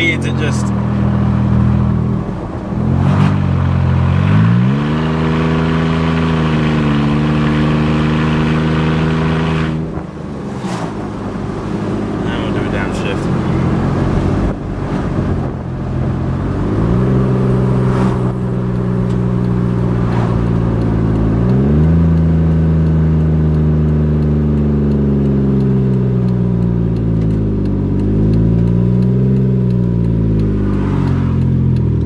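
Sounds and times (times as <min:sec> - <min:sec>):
loud car engine driving: 0:00.0 - 0:32.0.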